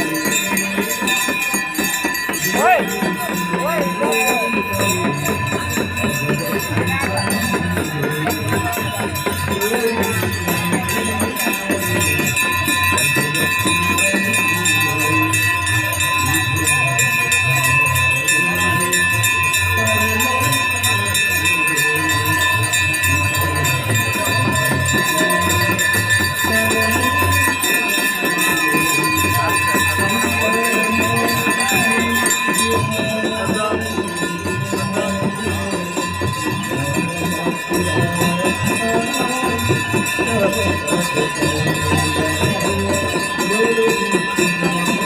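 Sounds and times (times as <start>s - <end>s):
devotional music: 0.0s - 45.0s
hand bells ringing rapidly: 0.0s - 45.0s.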